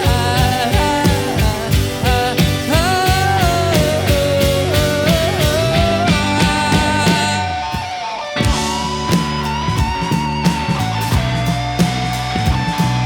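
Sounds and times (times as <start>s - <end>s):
drums beat: 0.0s - 13.0s
live band playing: 0.0s - 13.0s
pitch-bending lead melody: 0.0s - 13.0s.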